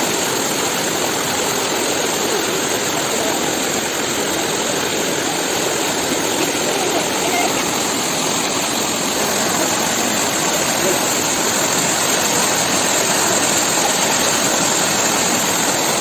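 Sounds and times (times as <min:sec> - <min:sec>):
water pouring over rocks: 0:00.0 - 0:16.0.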